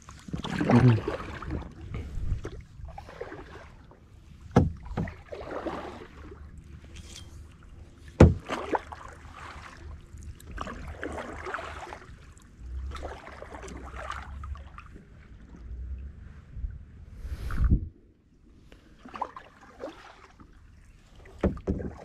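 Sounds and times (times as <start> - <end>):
paddle strokes splashing in water: 0.0 - 15.8, 18.9 - 22.0.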